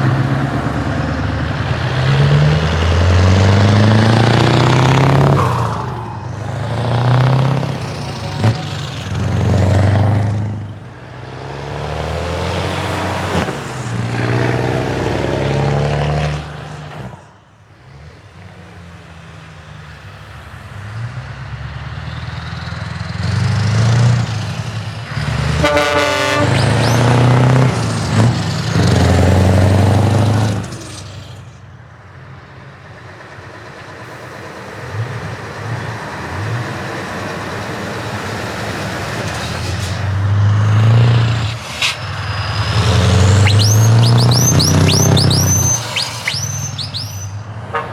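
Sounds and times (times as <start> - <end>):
trucks revving past: 0.0 - 47.9.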